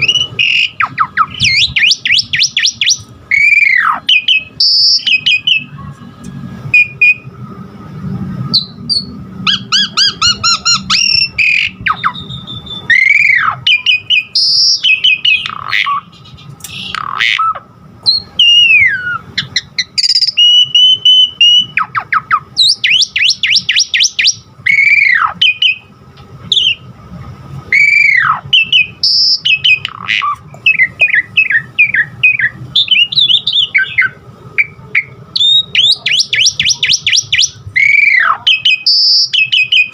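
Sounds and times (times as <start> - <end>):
starling singing: 0.0 - 7.3, 8.5 - 25.9, 27.7 - 39.9.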